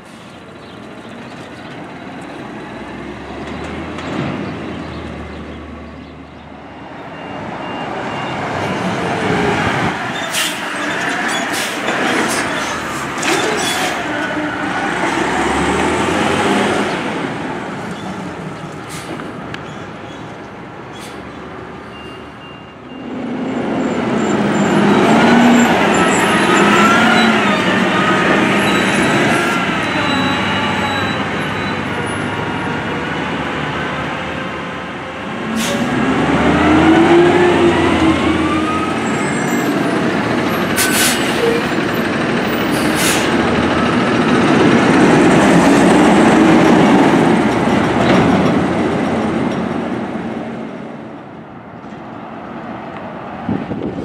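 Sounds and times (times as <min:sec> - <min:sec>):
garbage trucks driving past: 0:00.0 - 0:54.0.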